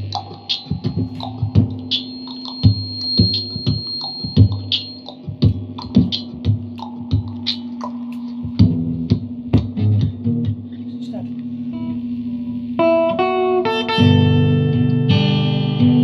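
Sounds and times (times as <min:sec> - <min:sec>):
acoustic guitar strumming: 0:00.0 - 0:10.9, 0:11.7 - 0:16.0.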